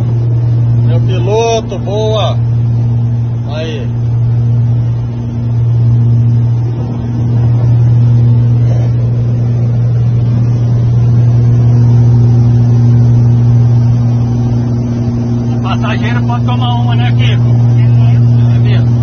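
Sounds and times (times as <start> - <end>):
aircraft engines droning in cabin: 0.0 - 19.0.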